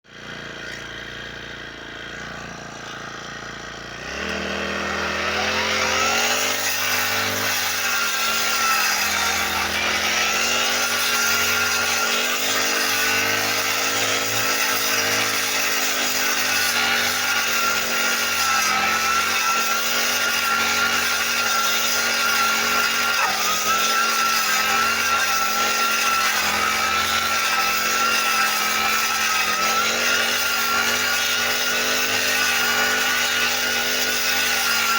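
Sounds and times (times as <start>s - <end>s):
brush cutter engine revving: 0.1s - 34.9s.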